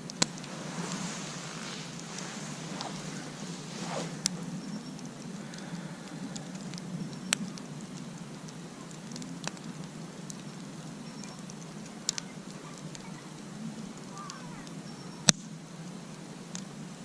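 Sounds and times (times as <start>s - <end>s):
background hiss: 0.0s - 17.0s
campfire crackling and popping: 0.0s - 17.0s.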